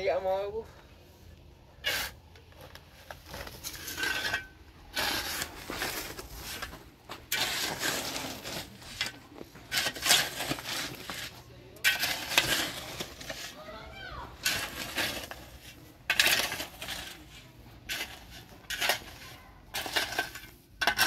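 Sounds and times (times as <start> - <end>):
hard objects clattering and scraping: 1.6 - 21.0.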